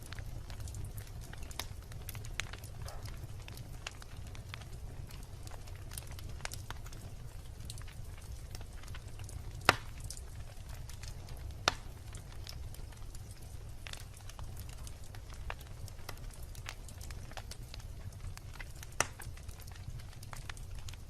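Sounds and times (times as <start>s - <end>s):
bonfire crackling: 0.0s - 21.0s
burning wood popping: 0.0s - 21.0s
low rumble of flames: 0.0s - 21.0s.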